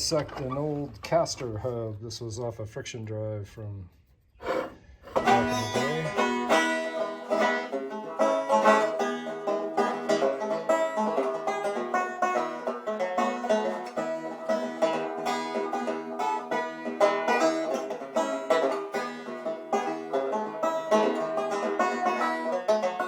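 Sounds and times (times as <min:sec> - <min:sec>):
fast banjo picking: 0:04.4 - 0:23.0.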